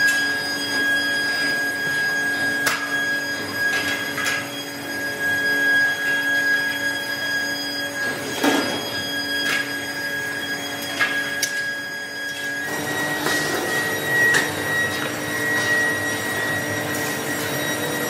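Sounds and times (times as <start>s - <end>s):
factory machinery whining and humming: 0.0s - 18.0s.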